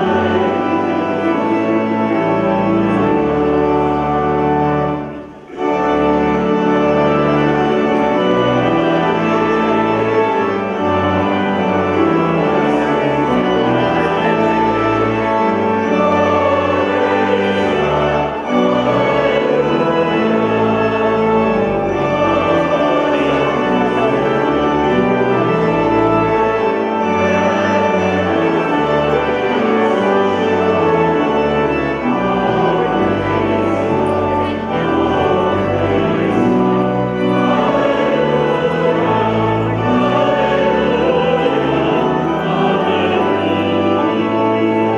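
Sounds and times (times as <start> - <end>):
organ playing held chords: 0.0 - 44.9.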